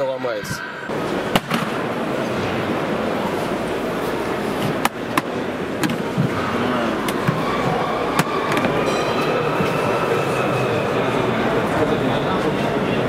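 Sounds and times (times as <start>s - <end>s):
crowd murmur: 0.4s - 13.0s.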